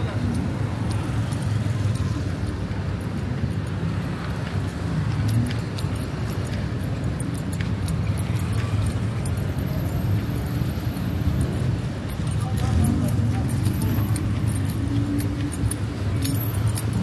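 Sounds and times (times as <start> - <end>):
traffic rumble on wet road: 0.0 - 17.0.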